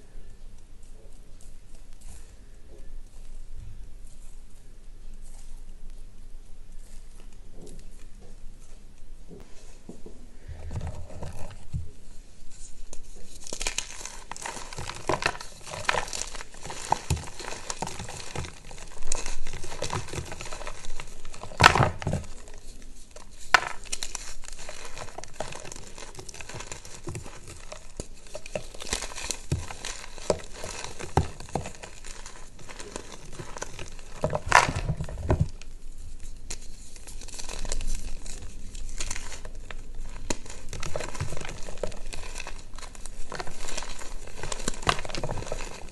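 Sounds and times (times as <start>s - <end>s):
chalk crumbling by hand: 0.0s - 45.9s.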